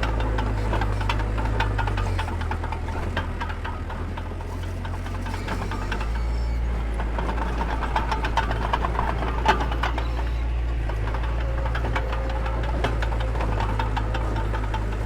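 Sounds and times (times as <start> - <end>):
diesel engine deep rumble: 0.0 - 15.0
metallic clanks and rattles: 0.0 - 15.0.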